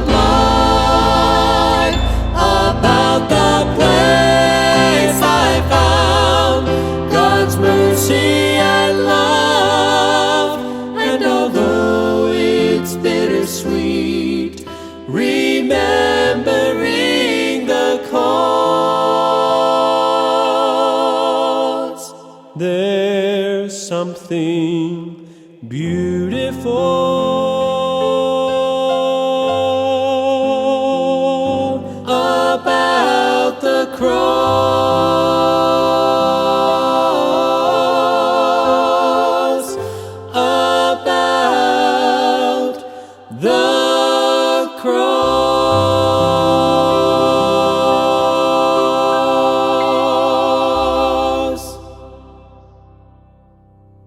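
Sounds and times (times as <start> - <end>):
voices singing in harmony: 0.0 - 53.2.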